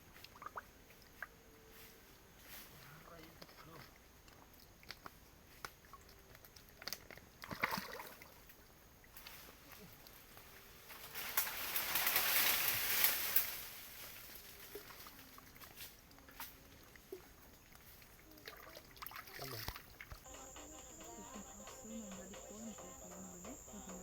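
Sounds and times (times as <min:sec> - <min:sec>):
water splashing and sloshing: 0:00.0 - 0:01.4, 0:02.4 - 0:20.3.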